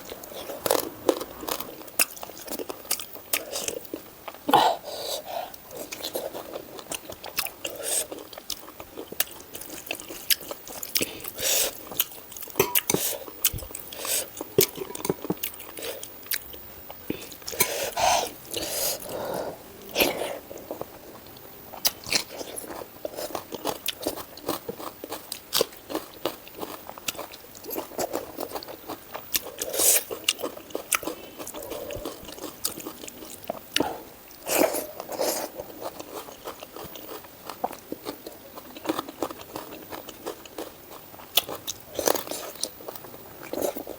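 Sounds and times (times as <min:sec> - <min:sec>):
chewing and biting food: 0:00.0 - 0:43.9.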